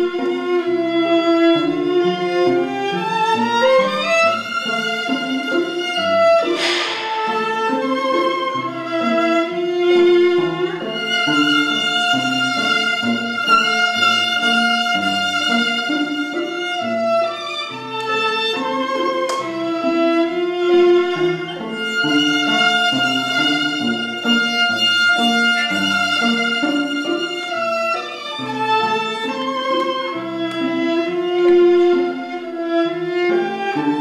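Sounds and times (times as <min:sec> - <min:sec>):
lower accompaniment: 0:00.0 - 0:34.0
violin playing slow melody: 0:00.0 - 0:34.0.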